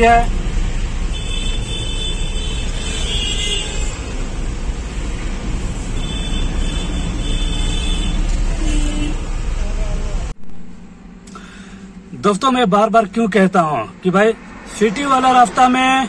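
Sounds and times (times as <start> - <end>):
engine and road noise: 0.0 - 16.0.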